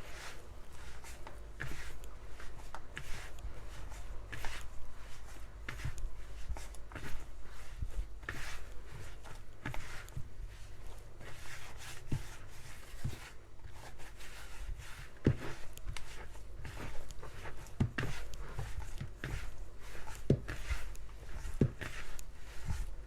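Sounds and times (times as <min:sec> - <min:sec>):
hands kneading dough: 0:00.0 - 0:23.0.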